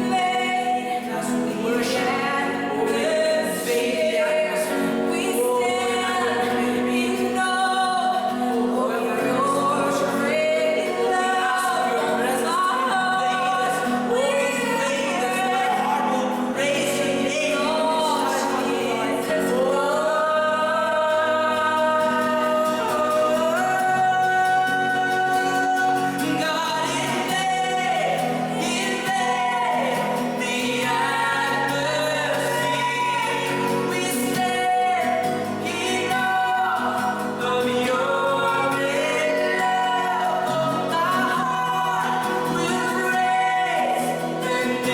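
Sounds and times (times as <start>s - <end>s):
voices singing gospel melody: 0.0s - 44.9s.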